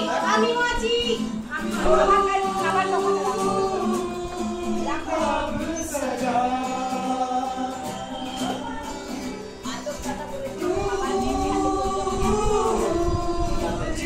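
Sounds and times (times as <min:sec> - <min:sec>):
voices singing gliding long notes: 0:00.0 - 0:14.0.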